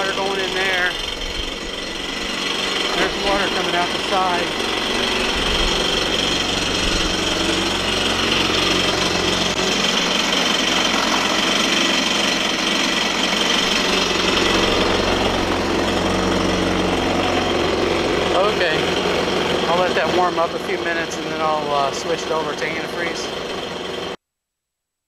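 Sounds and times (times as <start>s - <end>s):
jet ski engine idling: 0.0s - 24.2s.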